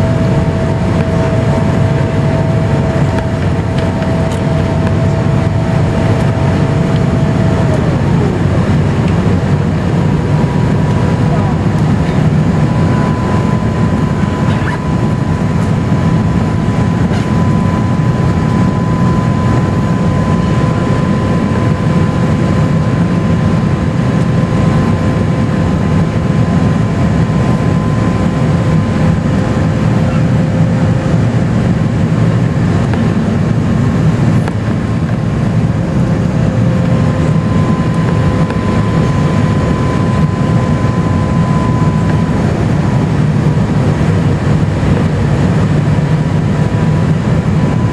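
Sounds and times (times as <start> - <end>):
airplane cabin engine rumble: 0.0 - 47.9
thin steady whine: 0.0 - 47.9.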